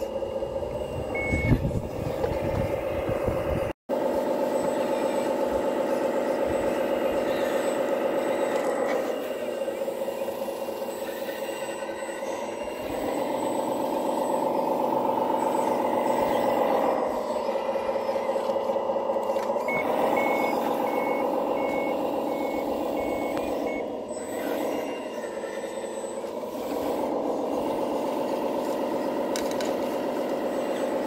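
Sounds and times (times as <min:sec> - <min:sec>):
simulated diesel engine drone: 0:00.0 - 0:31.0.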